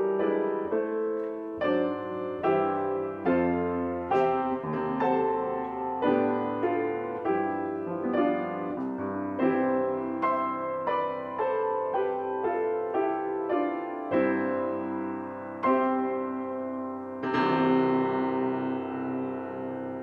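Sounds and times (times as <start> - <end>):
slow gentle piano piece: 0.0 - 20.0.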